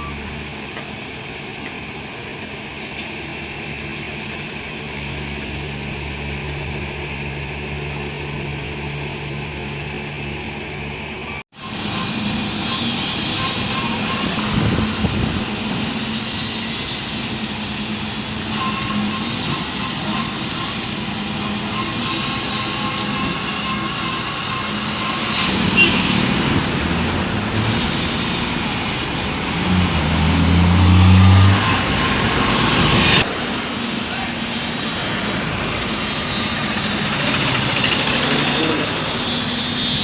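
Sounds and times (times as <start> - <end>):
heavy machinery engines: 0.0 - 40.0
traffic engines: 0.0 - 40.0.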